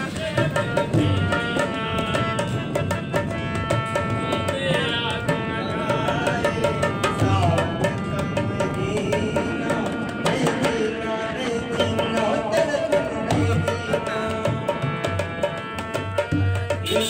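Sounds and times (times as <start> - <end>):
steady drum beat: 0.0 - 10.9, 11.8 - 17.0.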